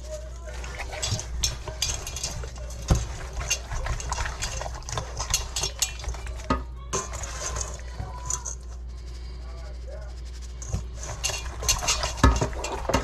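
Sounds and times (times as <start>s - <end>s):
utensils and dishes clicking: 0.0s - 8.8s, 10.6s - 13.0s.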